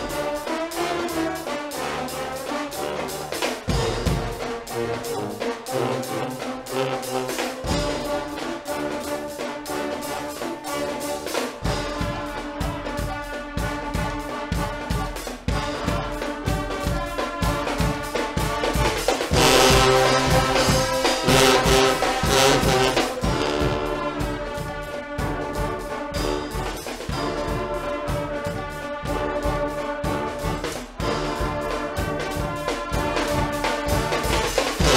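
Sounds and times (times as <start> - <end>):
brass band playing: 0.0 - 34.9
steady drum beat: 0.0 - 34.9.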